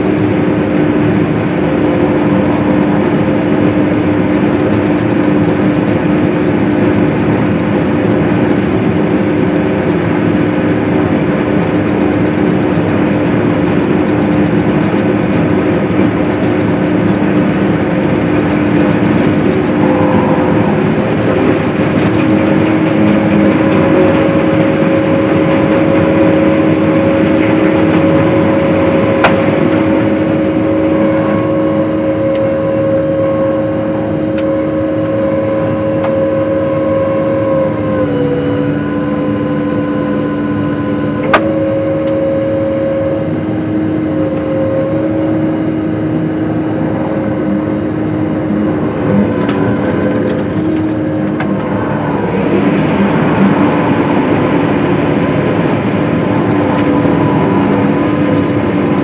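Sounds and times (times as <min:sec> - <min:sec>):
windrower engine drone: 0:00.0 - 0:59.0.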